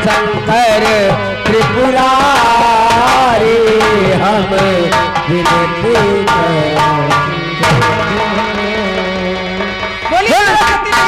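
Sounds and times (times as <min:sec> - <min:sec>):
person singing: 0:00.0 - 0:11.0
sustained instrumental tones: 0:00.0 - 0:11.0.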